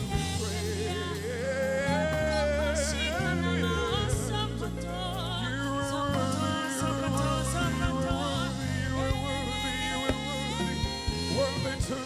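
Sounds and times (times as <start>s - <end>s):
instrumental accompaniment: 0.0s - 12.0s
voices singing gospel: 0.0s - 12.0s.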